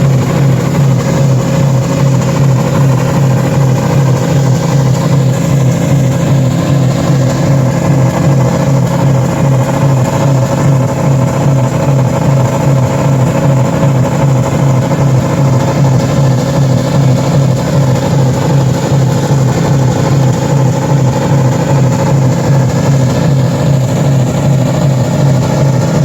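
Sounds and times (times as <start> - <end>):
car engine running loud: 0.0 - 26.0.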